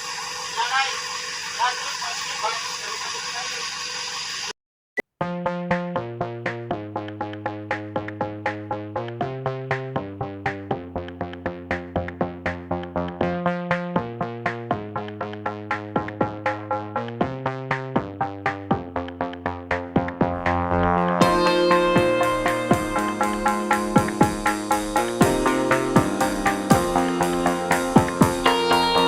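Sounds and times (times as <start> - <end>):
plucked synth electronic music: 5.2 - 29.0.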